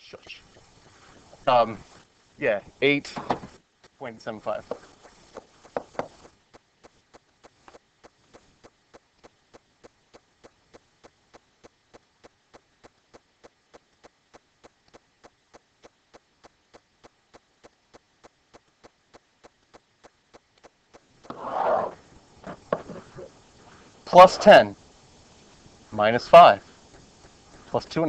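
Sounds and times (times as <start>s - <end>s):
faint steady ticking: 0.0s - 28.0s.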